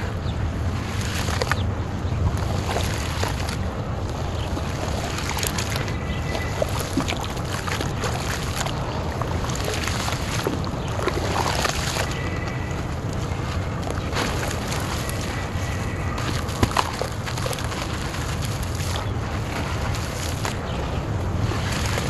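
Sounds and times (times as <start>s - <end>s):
wet clay squishing in water: 0.0s - 22.0s.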